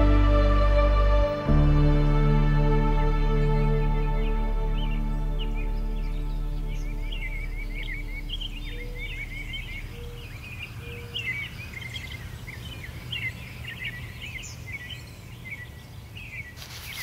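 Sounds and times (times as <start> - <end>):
songbirds chirping and singing: 2.6 - 17.0.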